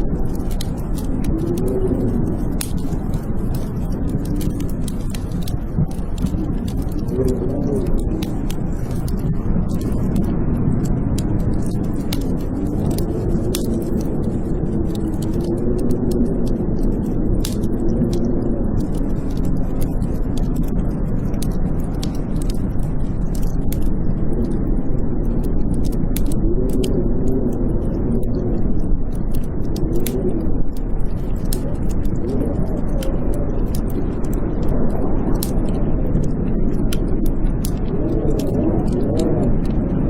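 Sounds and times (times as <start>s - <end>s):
blizzard wind howling: 0.0s - 40.0s
wood fire crackling and popping: 0.0s - 40.0s.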